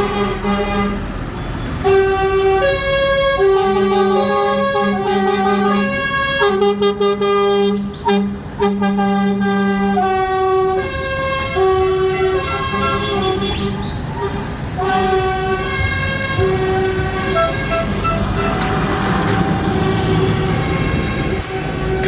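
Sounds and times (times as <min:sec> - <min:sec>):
lorry air horns tooting: 0:00.0 - 0:01.1, 0:01.8 - 0:22.0.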